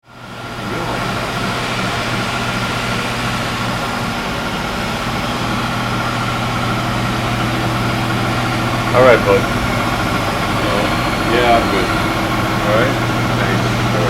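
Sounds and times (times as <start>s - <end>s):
lathe humming: 0.1s - 14.0s
steady high tone: 0.4s - 14.0s.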